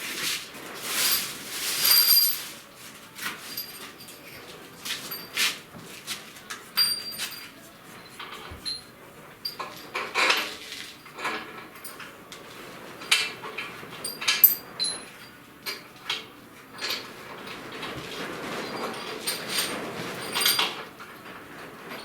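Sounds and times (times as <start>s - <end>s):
metal tools clinking and scraping: 0.2s - 22.0s.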